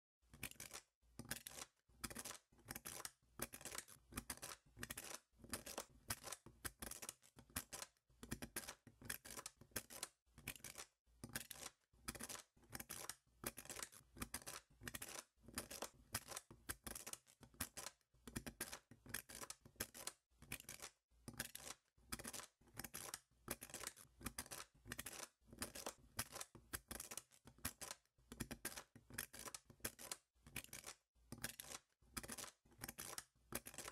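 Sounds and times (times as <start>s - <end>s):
magnet balls clicking and scraping: 0.3s - 33.9s.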